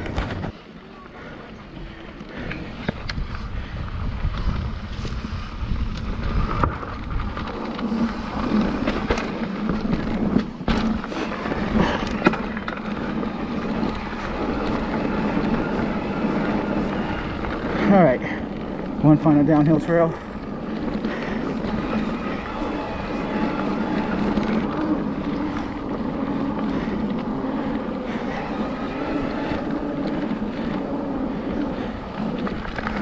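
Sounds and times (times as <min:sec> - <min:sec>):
bike rattling and clicking: 0:00.0 - 0:33.0
bike tyres rolling on dirt: 0:00.0 - 0:33.0.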